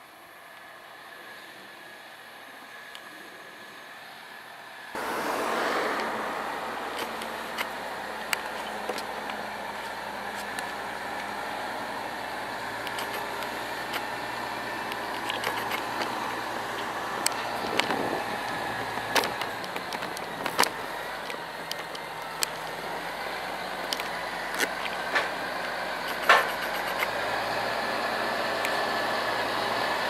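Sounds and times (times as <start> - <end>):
diesel farm machinery drone: 0.0 - 30.0.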